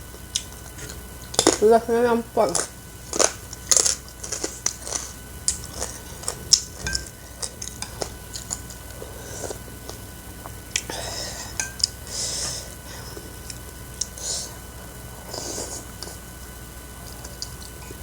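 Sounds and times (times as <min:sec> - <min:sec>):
hissy eating mouth sounds: 0:02.5 - 0:18.0.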